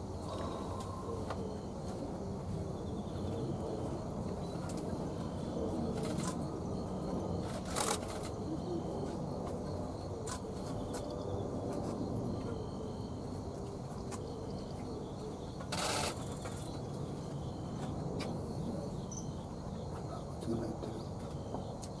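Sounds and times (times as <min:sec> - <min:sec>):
low outdoor rumble: 0:00.0 - 0:21.8
faint insect chirring: 0:00.0 - 0:22.0.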